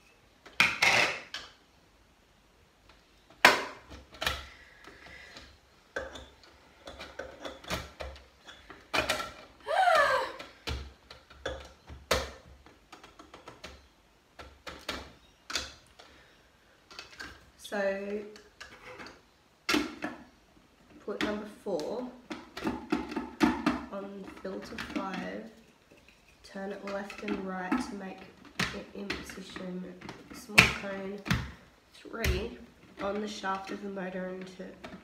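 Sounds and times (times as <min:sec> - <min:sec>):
plastic parts clicking and knocking: 0:00.4 - 0:01.6, 0:02.8 - 0:09.6, 0:10.3 - 0:35.0.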